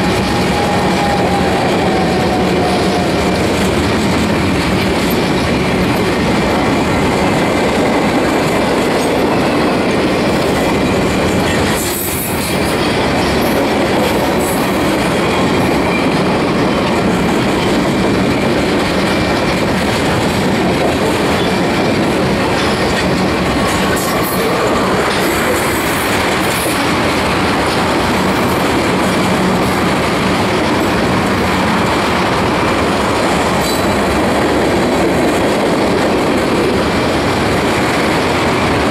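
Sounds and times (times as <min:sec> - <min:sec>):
train wheels rumbling and clattering: 0:00.0 - 0:38.9.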